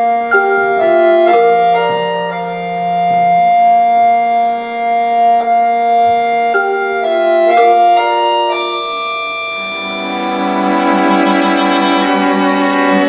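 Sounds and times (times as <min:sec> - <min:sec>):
accordion playing held chords: 0:00.0 - 0:13.0.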